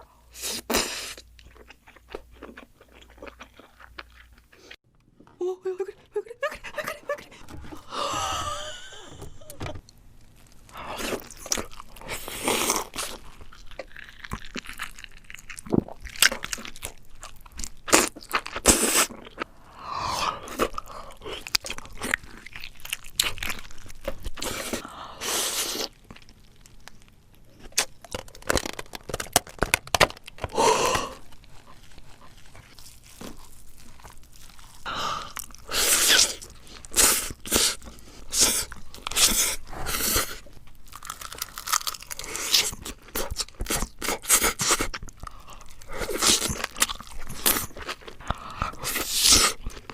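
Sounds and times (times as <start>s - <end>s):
person chewing crunchy food: 0.2s - 4.8s, 7.2s - 49.9s.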